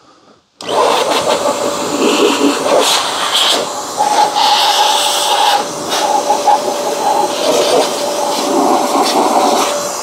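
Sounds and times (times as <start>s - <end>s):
electric blower whining: 0.6s - 10.0s.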